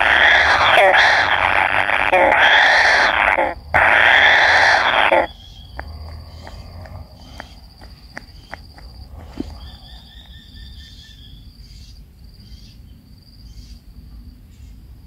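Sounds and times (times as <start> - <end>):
insect trilling: 0.0 - 12.7.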